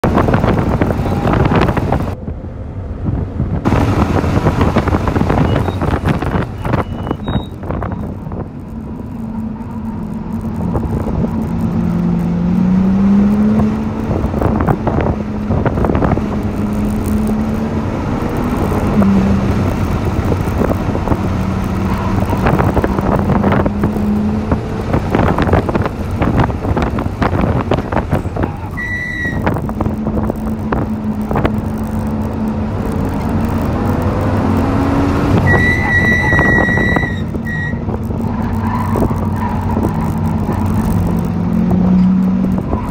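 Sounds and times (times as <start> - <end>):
car engine revving: 0.0 - 42.9
road and wind noise: 0.0 - 42.9.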